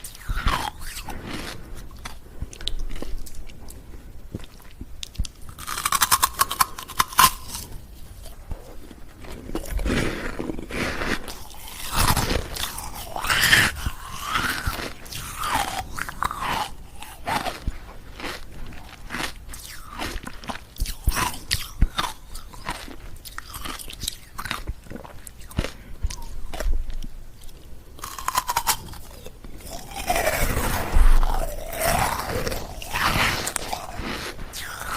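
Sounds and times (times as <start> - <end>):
ice cubes being chewed: 0.0 - 34.9.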